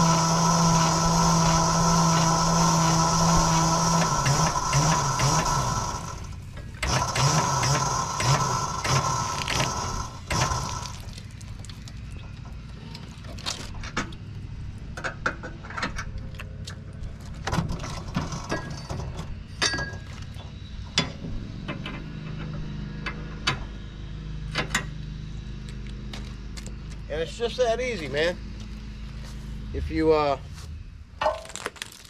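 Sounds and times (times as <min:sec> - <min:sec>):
low engine hum: 0:00.0 - 0:31.2.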